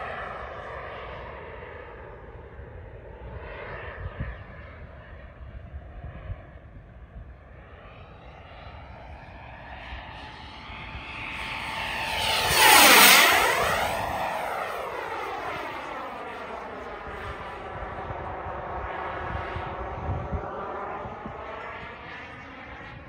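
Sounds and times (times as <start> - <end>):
model jet turbine whine: 0.0 - 23.0.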